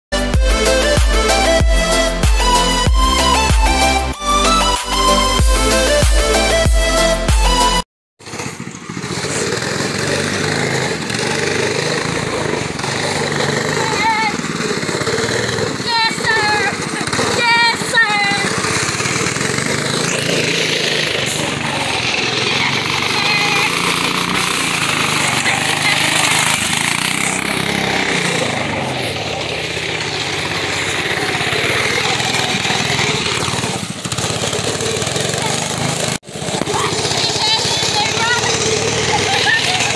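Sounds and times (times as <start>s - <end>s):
go-kart engine buzzing: 0.1s - 39.9s.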